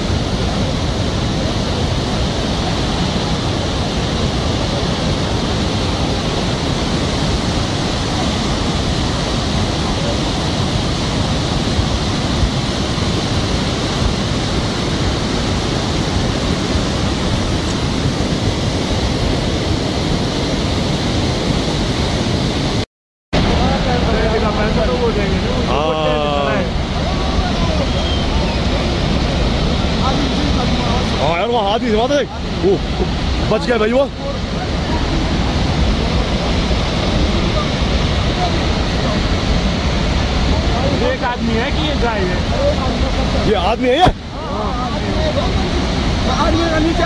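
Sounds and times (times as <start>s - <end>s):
river rushing over rocks: 0.0s - 22.8s, 23.4s - 47.0s.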